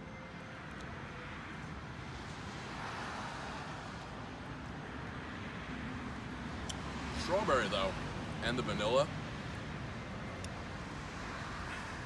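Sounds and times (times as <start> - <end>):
car passing: 0.0 - 12.0
road traffic noise: 0.0 - 12.0.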